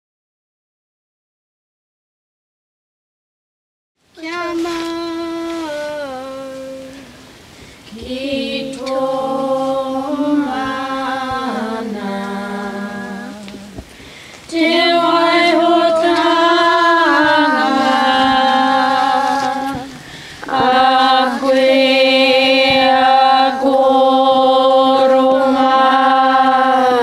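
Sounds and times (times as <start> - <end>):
children singing unaccompanied: 4.2 - 7.3, 7.9 - 13.9, 14.5 - 27.0.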